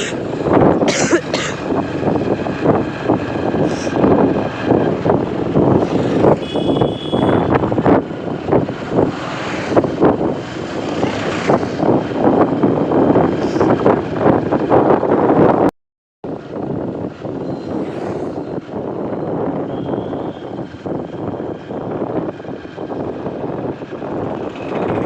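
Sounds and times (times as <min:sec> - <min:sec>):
train rumbling: 0:00.0 - 0:15.7, 0:16.3 - 0:25.0.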